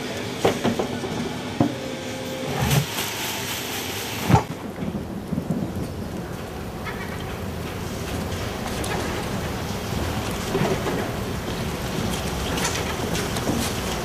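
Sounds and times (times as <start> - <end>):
steady rumbling noise: 0.0 - 14.0.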